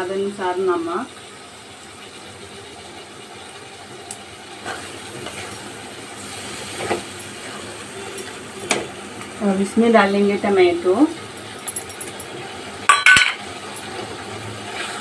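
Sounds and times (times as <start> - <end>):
masala sizzling in pan: 0.0 - 15.0.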